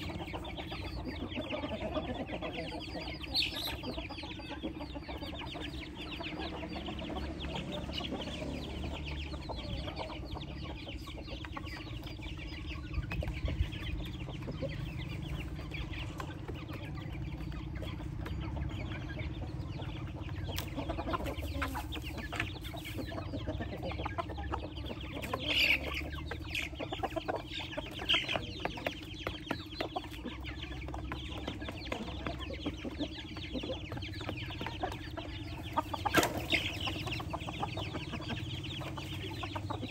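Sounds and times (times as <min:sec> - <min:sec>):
chicks peeping: 0:00.0 - 0:39.9
hens and roosters clucking: 0:00.0 - 0:39.9.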